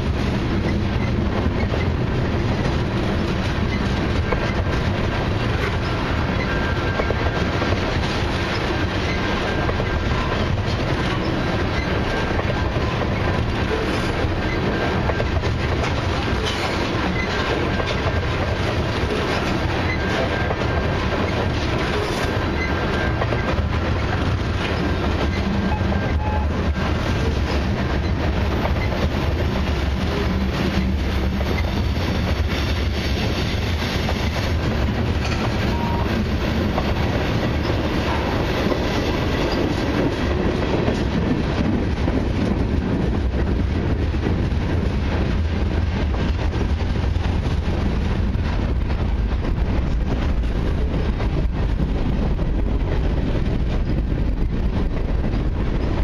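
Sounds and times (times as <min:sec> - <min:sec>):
freight train wheels rumbling: 0:00.0 - 0:56.0
wheels clacking over rail joints: 0:00.0 - 0:56.0.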